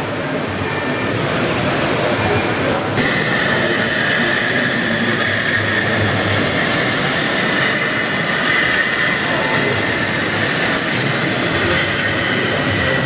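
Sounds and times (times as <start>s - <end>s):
model tram running noise: 0.0s - 13.0s.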